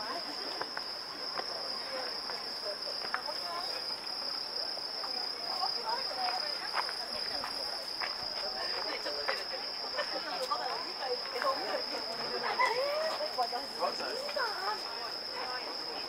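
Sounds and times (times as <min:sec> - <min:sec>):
crickets trilling: 0:00.0 - 0:16.0
distant crowd voices: 0:00.0 - 0:16.0.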